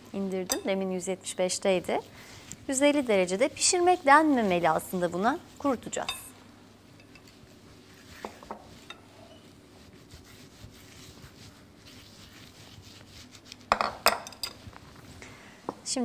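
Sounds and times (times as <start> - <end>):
faint brushing: 0.4 - 15.2.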